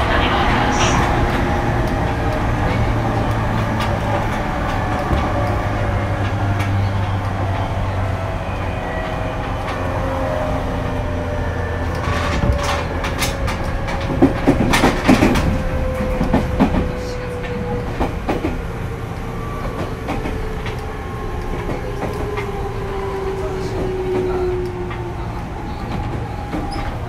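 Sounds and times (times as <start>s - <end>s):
wheel and rail rumble: 0.0s - 27.0s.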